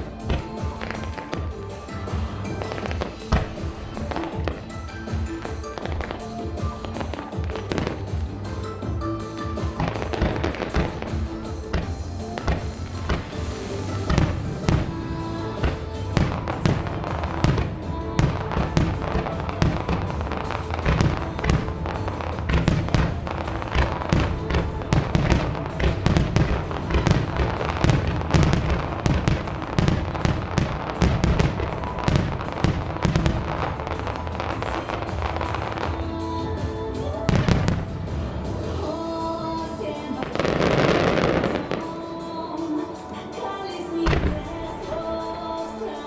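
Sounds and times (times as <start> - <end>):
fireworks bangs and crackles: 0.0 - 41.9, 44.0 - 46.0
music soundtrack: 0.0 - 46.0.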